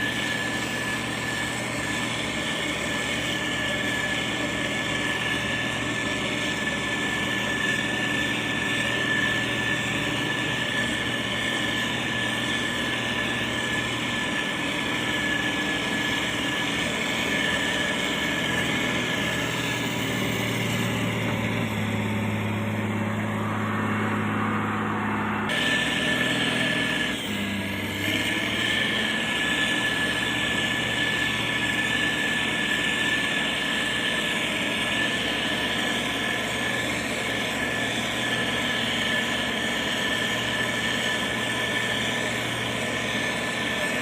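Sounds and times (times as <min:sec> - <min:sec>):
constant high whine: 0:00.0 - 0:44.0
diesel engine of heavy machinery: 0:00.0 - 0:44.0.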